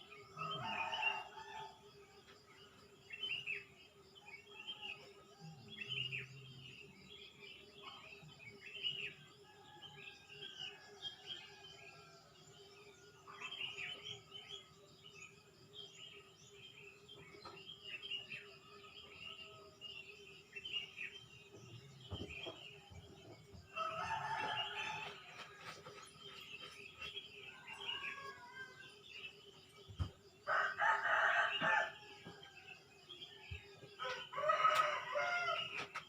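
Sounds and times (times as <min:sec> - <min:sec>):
wild birds chirping: 0:00.0 - 0:36.0.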